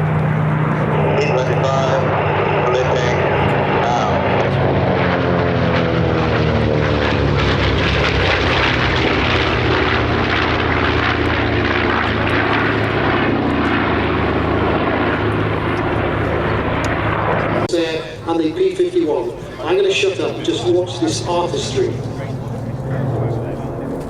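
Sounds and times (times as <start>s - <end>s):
propeller plane flying past: 0.0s - 24.0s.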